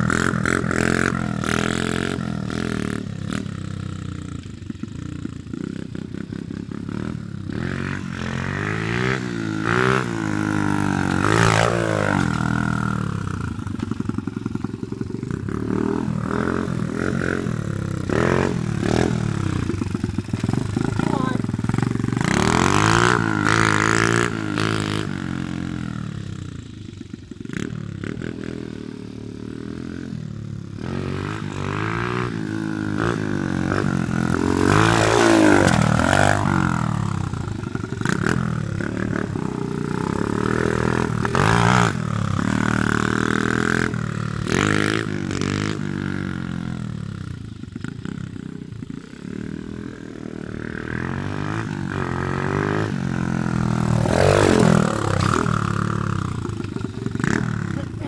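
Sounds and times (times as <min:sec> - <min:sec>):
pit bike engine revving: 0:00.0 - 0:04.7, 0:05.5 - 0:58.0.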